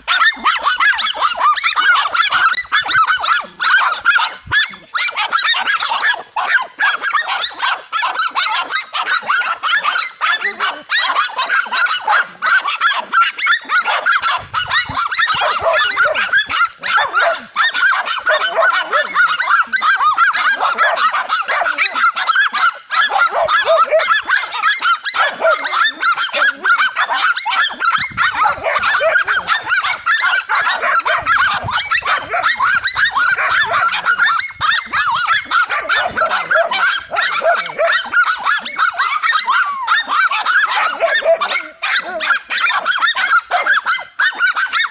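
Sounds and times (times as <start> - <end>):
dogs barking and yapping: 0.0 - 44.9.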